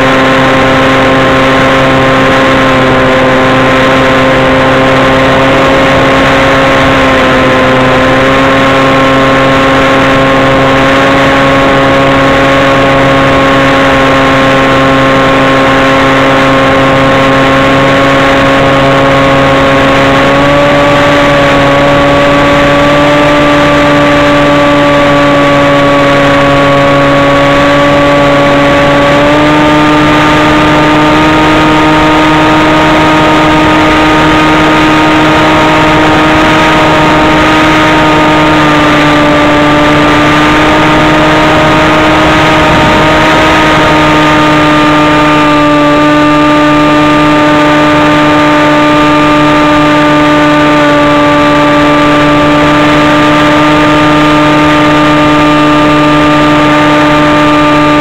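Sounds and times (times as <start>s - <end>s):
propeller motor drone: 0.0s - 58.0s
rushing air: 1.3s - 48.3s.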